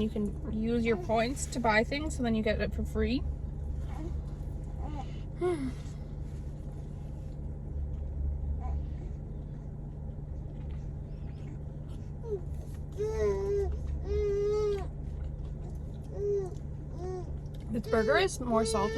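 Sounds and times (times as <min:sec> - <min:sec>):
car cabin hum: 0:00.0 - 0:16.6.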